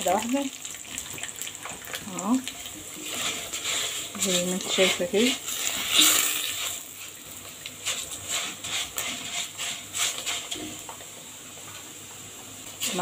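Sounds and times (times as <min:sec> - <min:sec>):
rice sizzling in hot oil: 0:00.0 - 0:13.0
spatula scraping and stirring: 0:01.2 - 0:11.7, 0:12.6 - 0:13.0.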